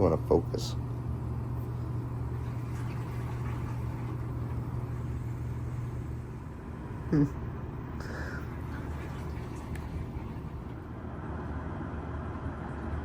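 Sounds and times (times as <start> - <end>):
washing machine hum: 0.0 - 13.0
washing machine wash sound: 0.0 - 13.0.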